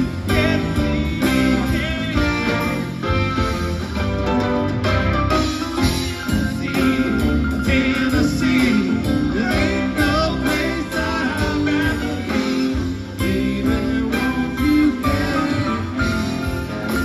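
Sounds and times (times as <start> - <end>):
bass guitar: 0.0 - 17.0
drum kit: 0.0 - 17.0
electric guitars: 0.0 - 17.0
keyboard: 0.0 - 17.0.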